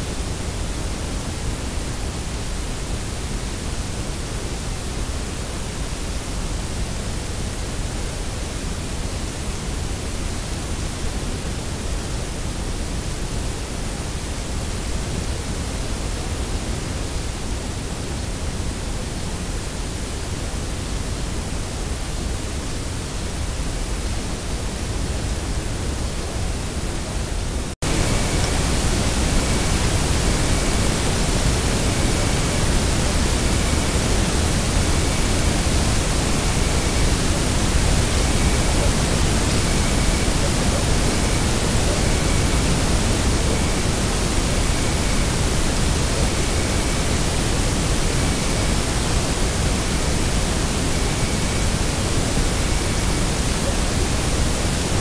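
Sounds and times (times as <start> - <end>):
microphone hiss: 0.0 - 55.0.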